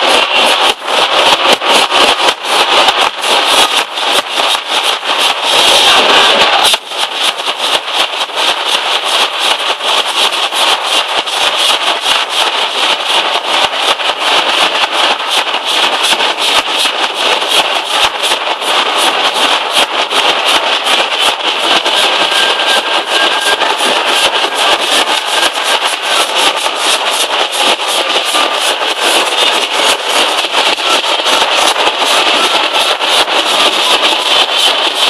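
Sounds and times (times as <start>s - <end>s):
barrel drums drumming fast: 0.0s - 35.0s.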